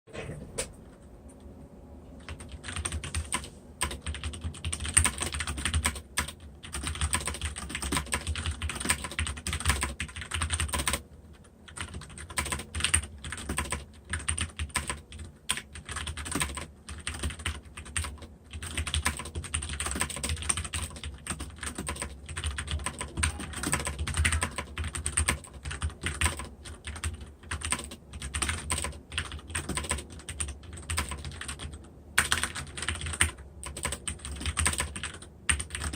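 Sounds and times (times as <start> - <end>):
fast typing on mechanical keyboard: 2.2 - 35.9.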